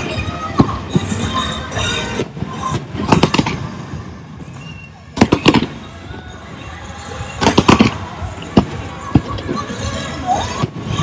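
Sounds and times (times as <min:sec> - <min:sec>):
fireworks bangs: 0:00.0 - 0:11.0
music: 0:00.0 - 0:11.0.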